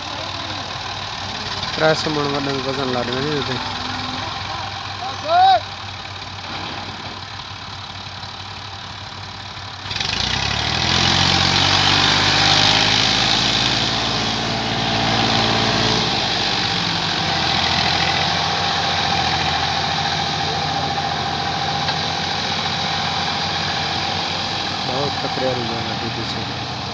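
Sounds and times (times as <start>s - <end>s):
tractor engine revving: 0.0s - 26.9s.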